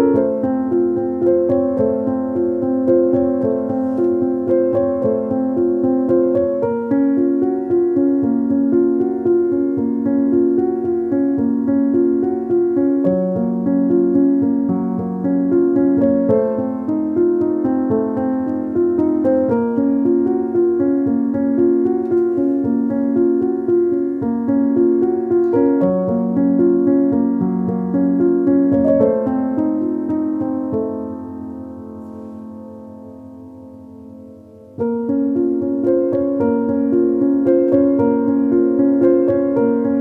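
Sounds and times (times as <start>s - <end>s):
gentle keyboard music: 0.0s - 40.0s.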